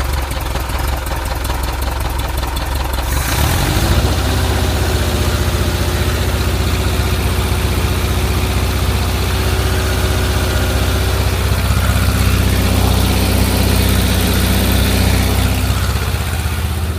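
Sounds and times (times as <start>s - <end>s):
air-cooled engine running: 0.0s - 16.9s
engine knocking: 0.0s - 16.9s.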